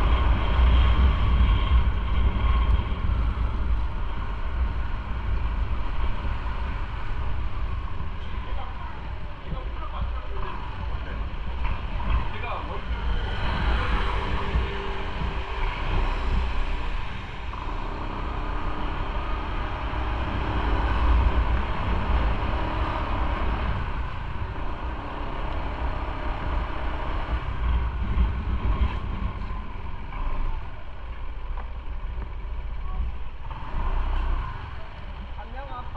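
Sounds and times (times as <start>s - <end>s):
wind and road noise: 0.0s - 35.9s.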